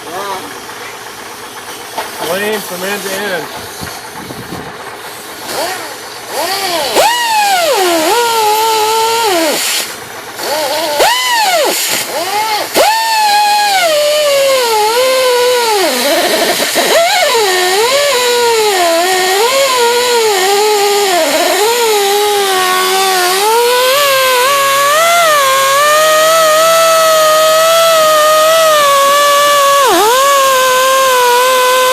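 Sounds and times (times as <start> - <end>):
power tool motor whining: 2.0 - 31.9.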